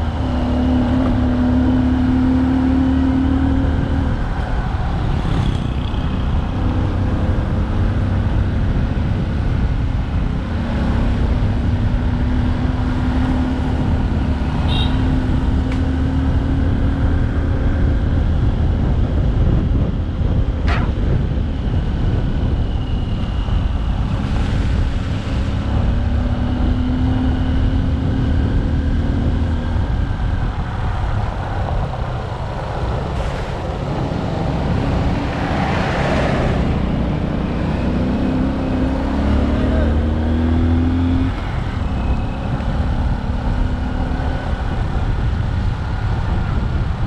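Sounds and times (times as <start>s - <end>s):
low rumble of road noise: 0.0s - 47.0s.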